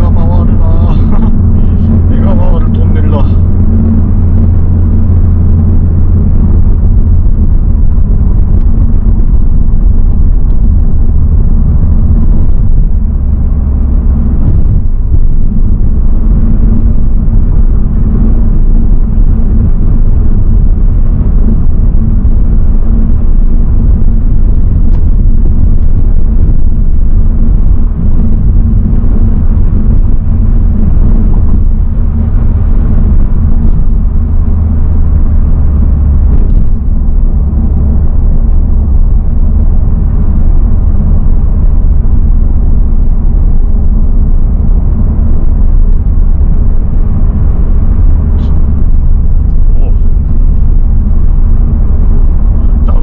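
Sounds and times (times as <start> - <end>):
car engine drone: 0.0 - 53.0
road noise: 0.0 - 53.0.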